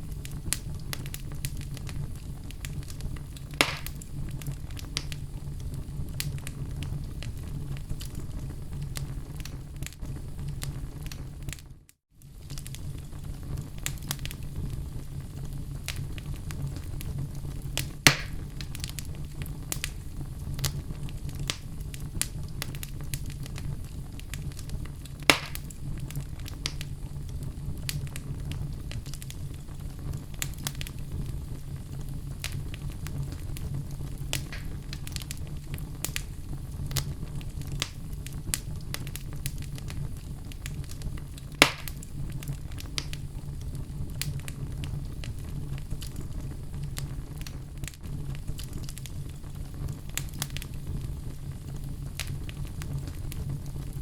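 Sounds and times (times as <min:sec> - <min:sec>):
fire crackling: 0:00.0 - 0:54.0
fire popping: 0:00.0 - 0:54.0.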